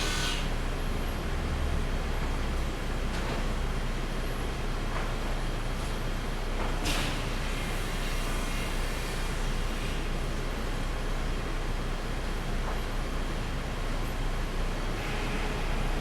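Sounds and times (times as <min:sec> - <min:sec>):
sawmill machinery running: 0:00.0 - 0:01.1, 0:02.8 - 0:16.0.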